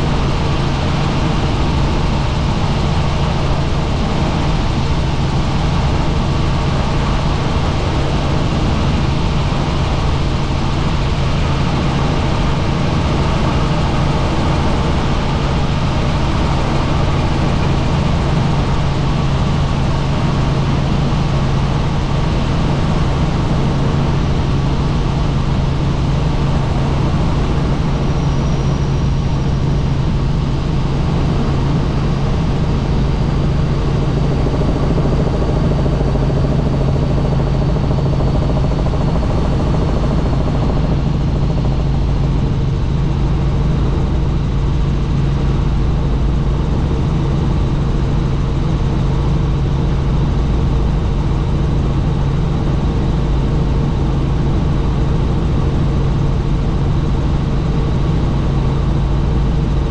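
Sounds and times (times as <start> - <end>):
helicopter engine and rotors: 0.0 - 59.9.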